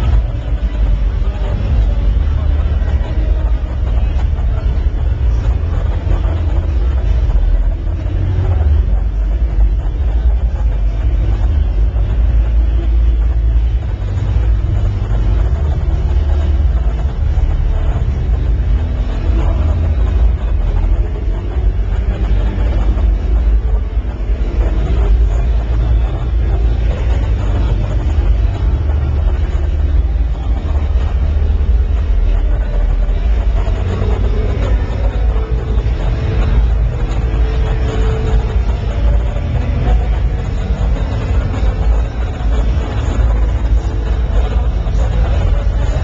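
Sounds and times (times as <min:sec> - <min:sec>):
loud low rumble: 0:00.0 - 0:46.0
murmur of many people: 0:00.0 - 0:46.0.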